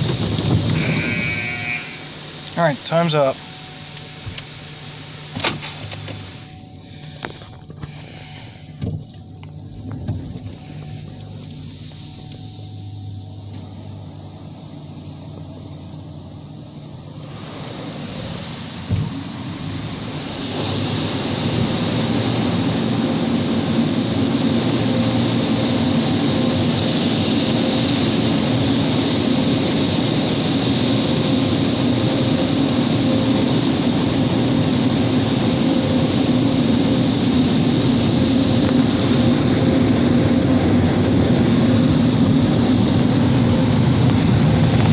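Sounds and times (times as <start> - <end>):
car wash dryer blowers: 0.0 - 44.9.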